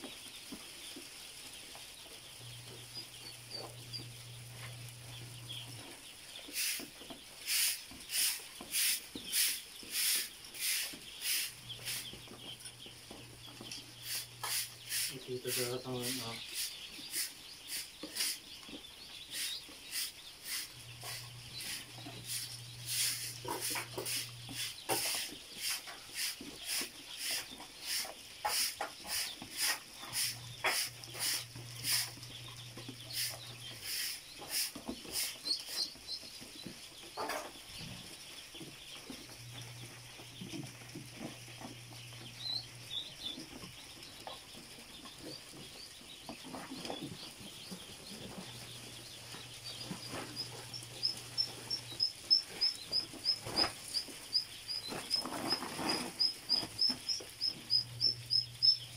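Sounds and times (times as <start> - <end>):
ducklings peeping: 0.0 - 58.9.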